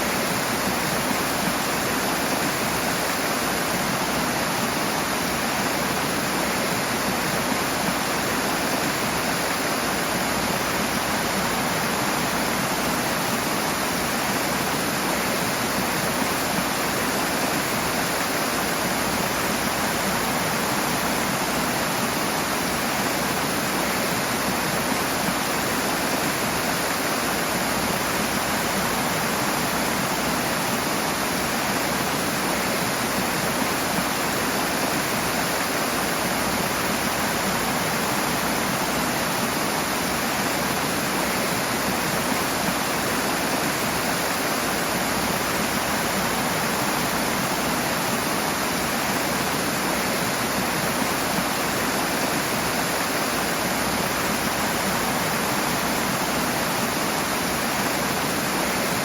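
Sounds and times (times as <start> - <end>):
roar of fast-flowing water: 0.0 - 59.0.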